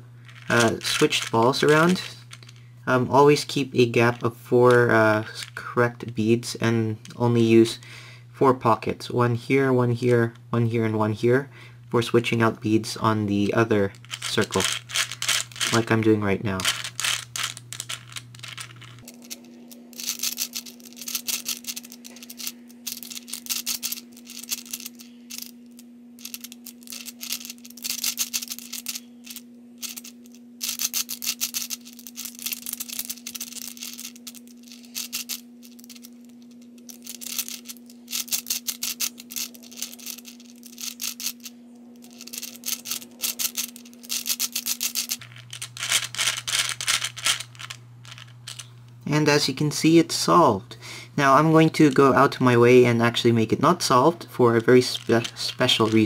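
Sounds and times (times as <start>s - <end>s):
faint steady hum: 0.0s - 56.0s
puzzle balls clicking and rattling: 0.2s - 7.4s, 13.3s - 48.8s, 51.3s - 56.0s.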